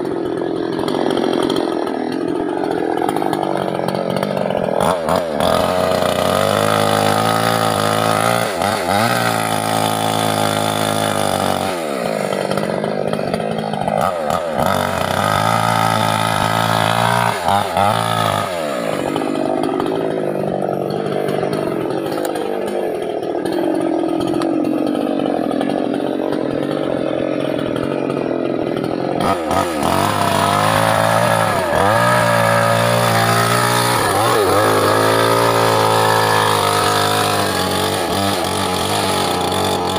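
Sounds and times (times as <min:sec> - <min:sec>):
mini chainsaw running: 0:00.0 - 0:39.9.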